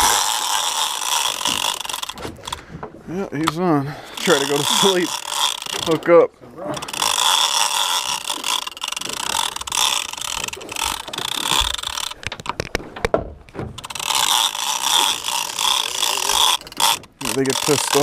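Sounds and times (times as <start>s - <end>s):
fishing reel ratcheting: 0.0s - 2.6s, 3.3s - 12.9s, 13.6s - 18.0s.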